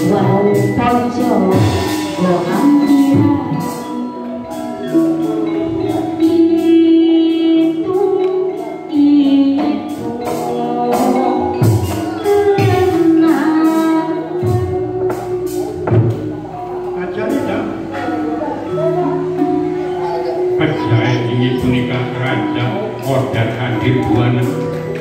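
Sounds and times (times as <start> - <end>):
gamelan kettle gongs: 0.0 - 25.0
person singing melismatic line: 0.0 - 25.0.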